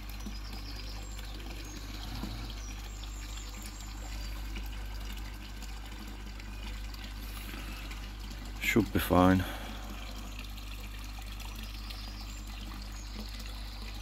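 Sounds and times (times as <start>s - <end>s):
pond water trickling and pouring: 0.0s - 14.0s.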